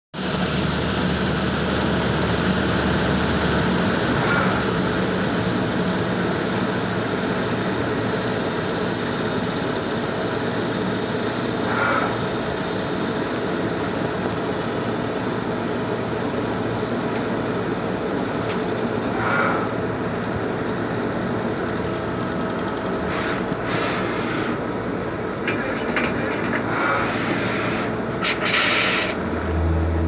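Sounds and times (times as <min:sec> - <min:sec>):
milling machine running: 0:00.2 - 0:29.6.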